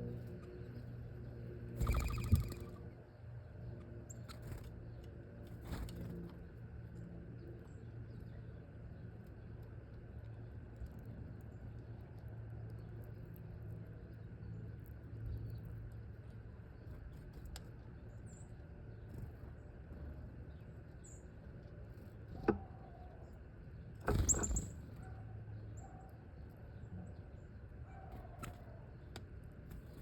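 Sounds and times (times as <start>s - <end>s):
wild birds chirping: 1.8s - 12.0s, 12.7s - 30.0s.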